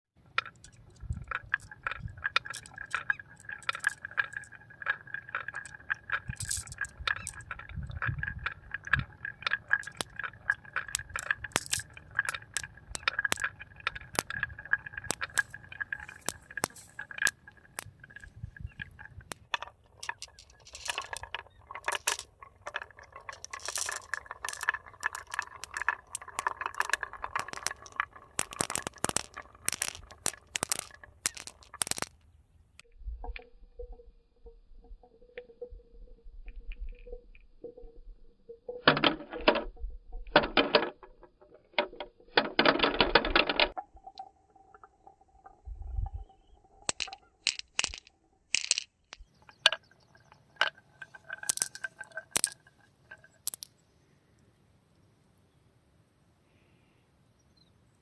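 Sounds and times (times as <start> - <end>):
small hard parts clattering: 0.2 - 53.8.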